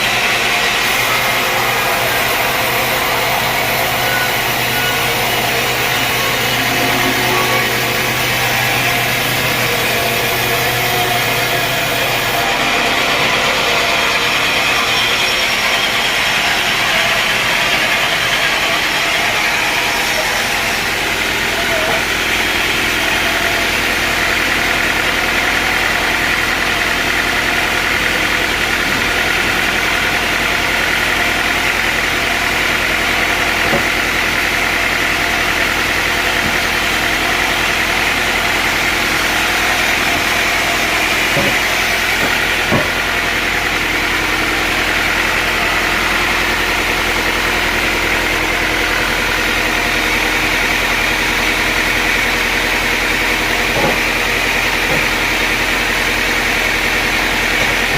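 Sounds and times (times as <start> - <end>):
sawmill machinery hum and whine: 0.0 - 57.9.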